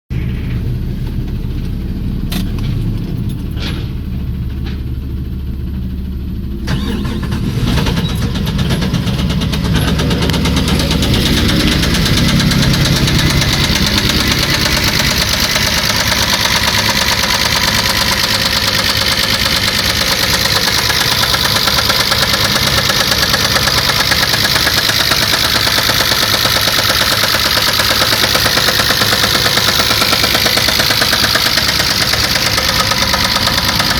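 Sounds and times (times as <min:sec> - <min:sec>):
car engine clattering: 0:00.2 - 0:33.9.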